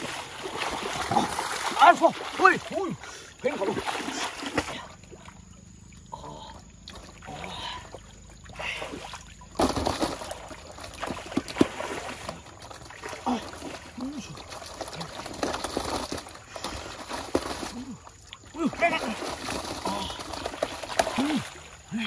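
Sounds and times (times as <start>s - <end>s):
muddy water splashing: 0.0s - 22.0s.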